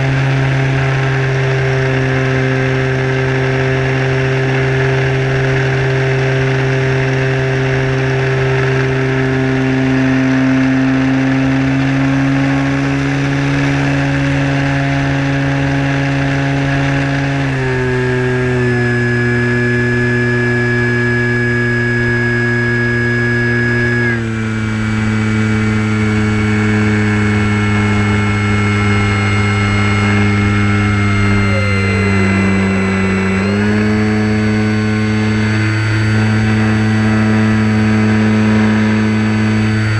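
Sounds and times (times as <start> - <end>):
model plane motor buzzing: 0.0 - 39.9.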